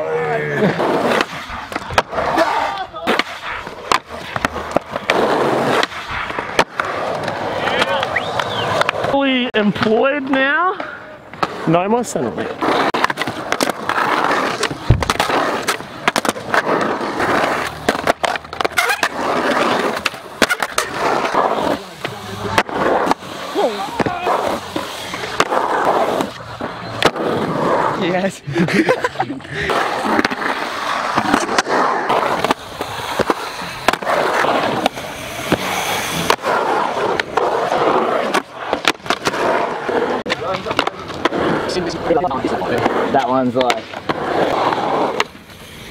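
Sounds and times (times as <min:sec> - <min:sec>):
skateboard wheels rolling on concrete: 0:00.0 - 0:45.9
skateboard clacking on concrete: 0:01.1 - 0:11.6, 0:12.5 - 0:28.1, 0:29.7 - 0:45.9.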